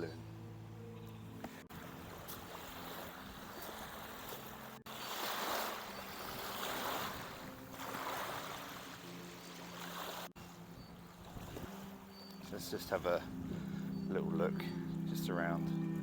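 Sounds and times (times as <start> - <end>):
rushing wind and water: 1.6 - 16.0.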